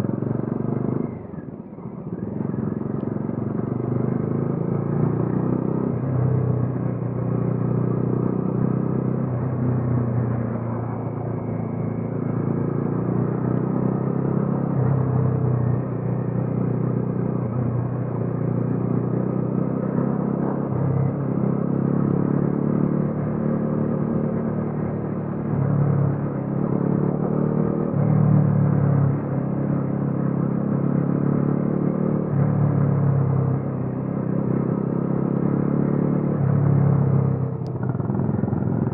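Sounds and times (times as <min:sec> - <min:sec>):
motorcycle engine revving: 0:02.2 - 0:38.9.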